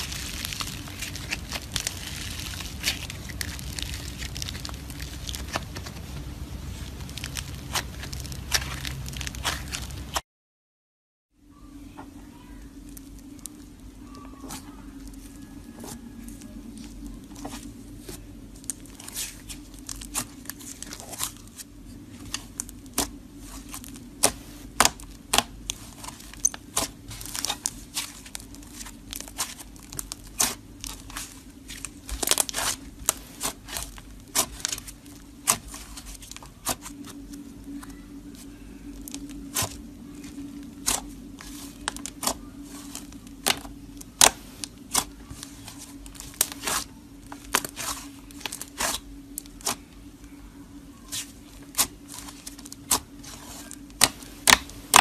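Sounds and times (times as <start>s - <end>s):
hands squishing clay slime: 0.0s - 10.2s, 12.9s - 55.0s.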